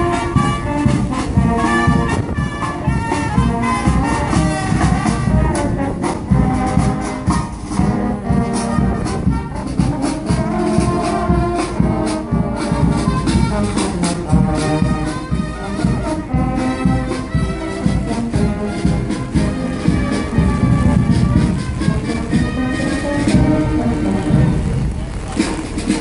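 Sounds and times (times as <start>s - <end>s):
brass marching band: 0.0s - 26.0s
steady drum beat: 0.0s - 26.0s.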